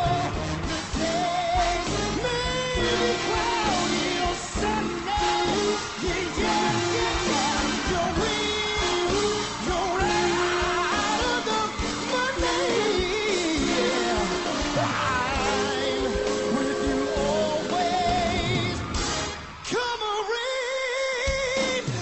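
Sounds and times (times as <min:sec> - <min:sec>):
man singing jazz: 0:00.0 - 0:18.9, 0:19.7 - 0:22.0
big band playing: 0:00.0 - 0:22.0.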